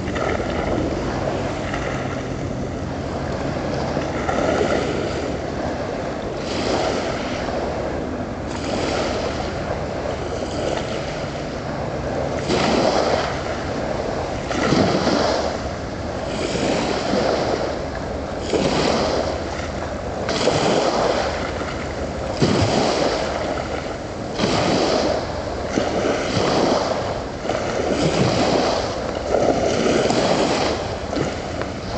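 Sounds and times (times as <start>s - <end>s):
small waves lapping: 0.0s - 31.9s.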